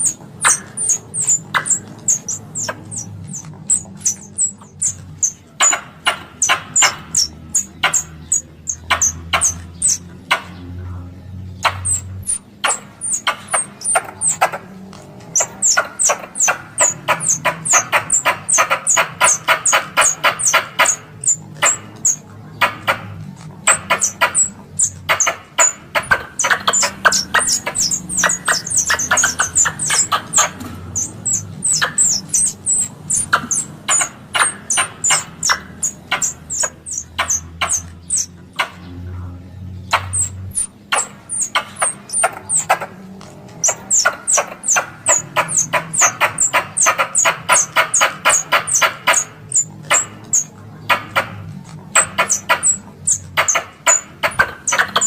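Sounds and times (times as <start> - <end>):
squirrel chirping call: 0.0 - 55.0.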